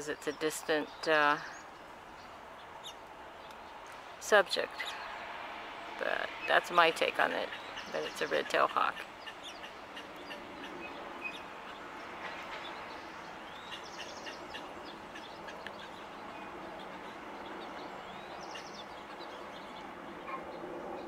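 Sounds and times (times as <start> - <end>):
outdoor background hum: 0.0 - 21.0
small birds chirping: 0.0 - 21.0.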